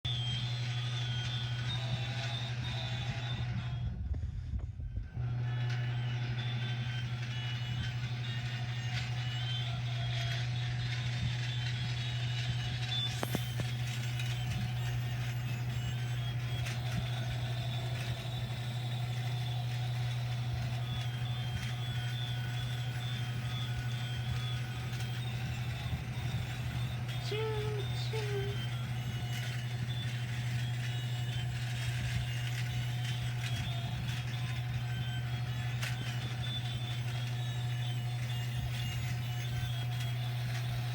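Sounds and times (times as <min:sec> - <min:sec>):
toy train motor humming: 0:00.0 - 0:40.9.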